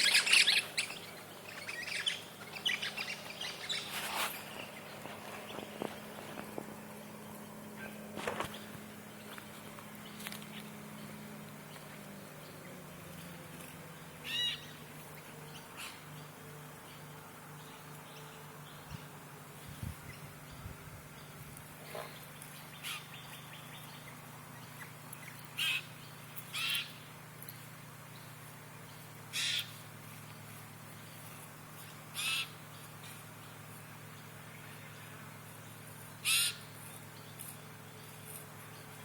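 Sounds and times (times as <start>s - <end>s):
steady low hum: 0.0s - 39.0s
wild birds calling: 0.0s - 39.0s.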